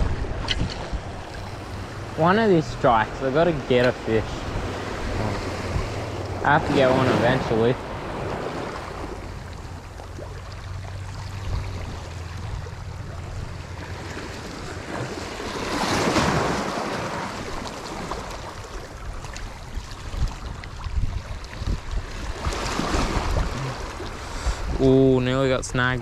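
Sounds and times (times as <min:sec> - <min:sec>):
wind buffeting microphone: 0:00.0 - 0:02.2, 0:02.8 - 0:26.0
waves breaking on rocks: 0:00.0 - 0:26.0.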